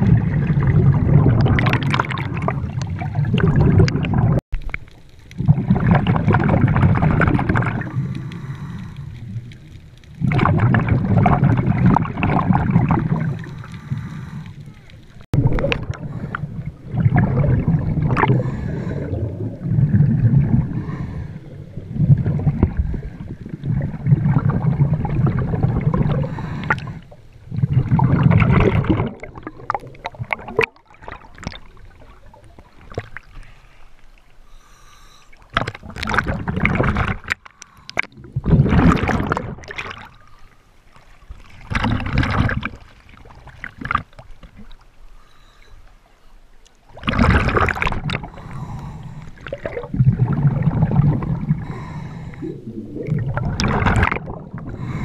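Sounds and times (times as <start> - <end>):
bubbly bursts: 0.0 - 4.4, 5.4 - 8.7, 10.1 - 14.2, 15.2 - 33.3, 35.5 - 37.4, 38.0 - 40.2, 41.6 - 44.1, 46.9 - 55.0
underwater bubbling: 0.0 - 55.0.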